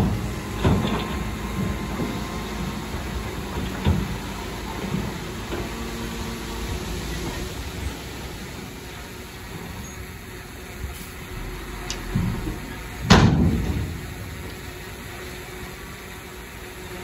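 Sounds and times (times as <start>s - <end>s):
heavy machinery rumbling: 0.0s - 17.0s.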